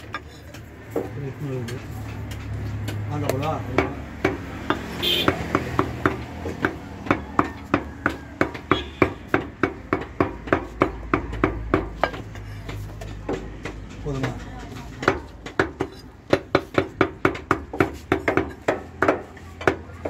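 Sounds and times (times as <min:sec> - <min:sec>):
cleaver chopping meat on wood block: 0:00.0 - 0:20.0.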